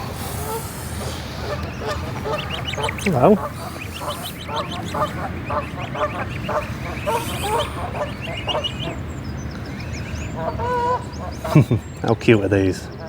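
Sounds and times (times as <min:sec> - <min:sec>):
geese honking: 0:00.0 - 0:13.0
goslings peeping: 0:00.0 - 0:13.0.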